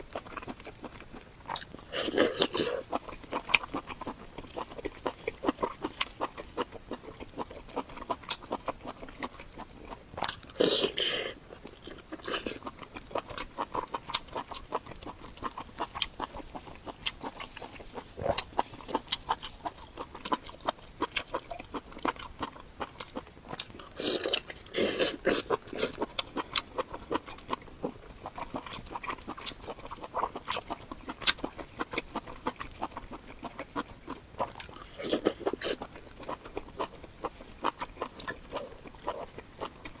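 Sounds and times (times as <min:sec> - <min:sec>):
chewing and crunching: 0:00.0 - 0:40.0.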